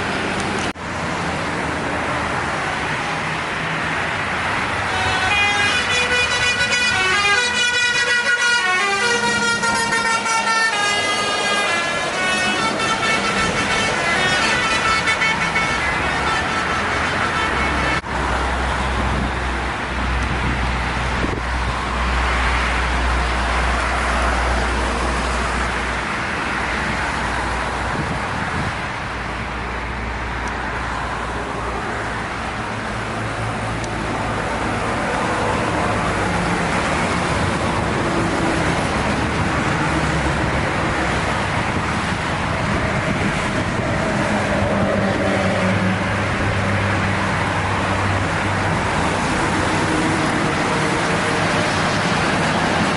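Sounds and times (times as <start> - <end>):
road traffic passing: 0.0 - 52.9.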